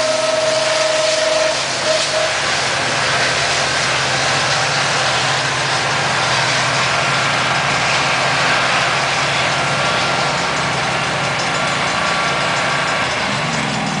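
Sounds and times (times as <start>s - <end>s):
diesel train pulling away: 0.0s - 14.0s
road traffic: 0.0s - 14.0s.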